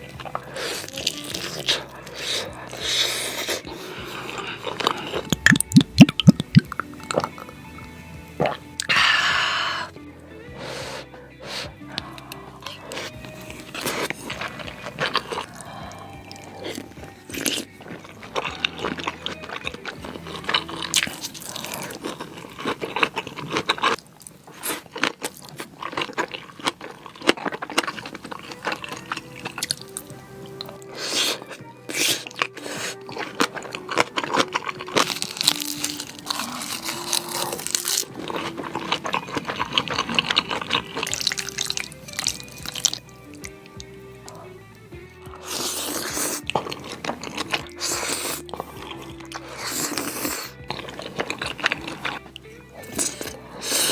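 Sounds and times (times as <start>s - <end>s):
wet slurping of noodles: 0.0s - 7.6s, 8.4s - 43.2s, 45.3s - 53.9s
background music: 0.0s - 53.9s
chewing: 0.0s - 53.9s.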